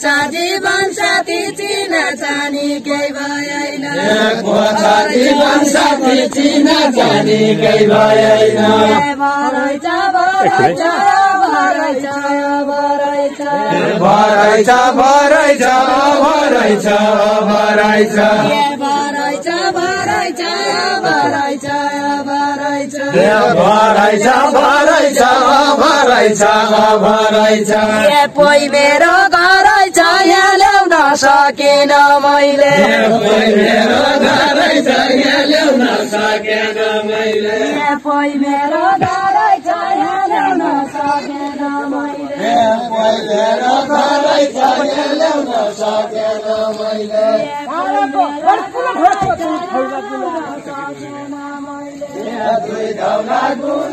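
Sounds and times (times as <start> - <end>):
voices singing folk song: 0.0 - 53.9.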